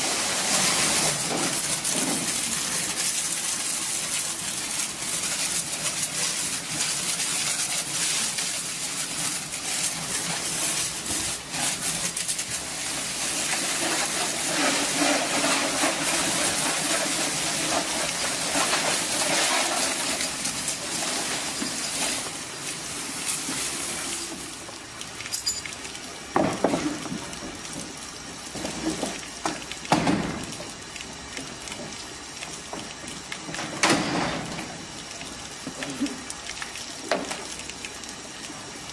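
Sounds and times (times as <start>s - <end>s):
water jet spraying on metal: 0.0s - 38.9s.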